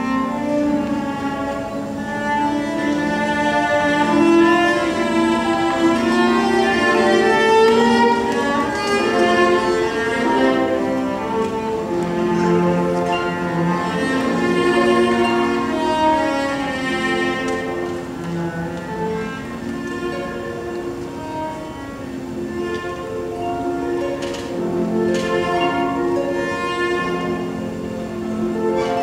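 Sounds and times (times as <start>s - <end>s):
bowed string music: 0.0s - 29.0s.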